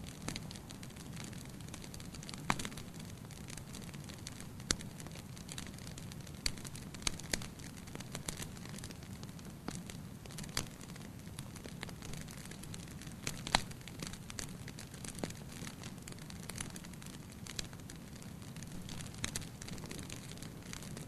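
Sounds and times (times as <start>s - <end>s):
fire crackling and popping: 0.0s - 21.0s
fire flames rumbling: 0.0s - 21.0s.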